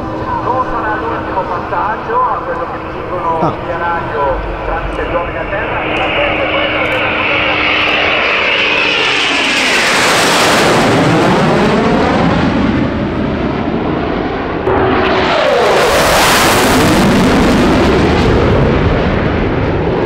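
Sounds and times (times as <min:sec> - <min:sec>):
jet aircraft passing low: 0:00.0 - 0:20.0.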